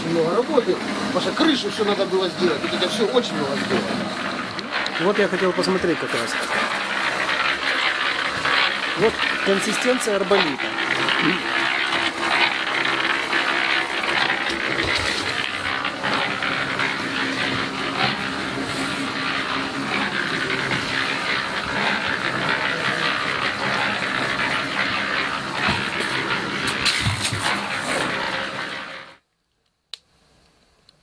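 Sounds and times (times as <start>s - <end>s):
concrete mixer running: 0.0s - 29.2s.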